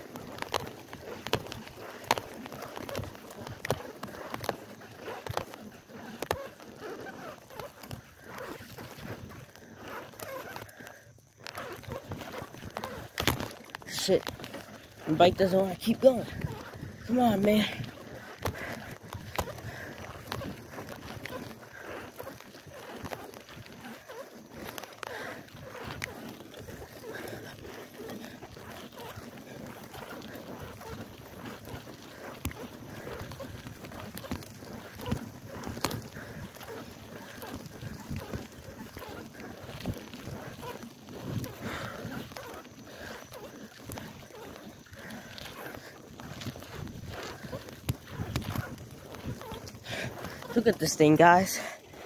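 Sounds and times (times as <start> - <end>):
bicycle tyres on wet pavement: 0.0 - 52.0.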